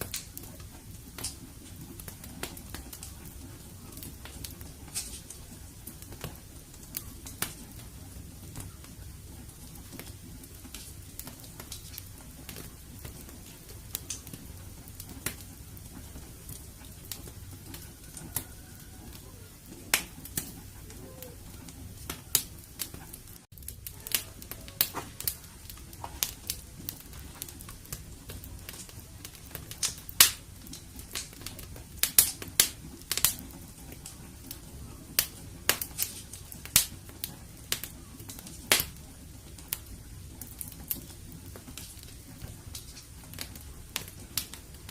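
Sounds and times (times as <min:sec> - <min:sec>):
fire crackling: 0:00.0 - 0:44.9.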